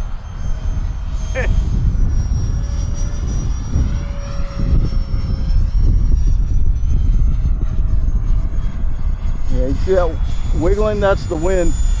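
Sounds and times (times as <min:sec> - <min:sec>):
electric ducted fan whining: 0:00.0 - 0:12.0
wind buffeting microphone: 0:00.0 - 0:12.0.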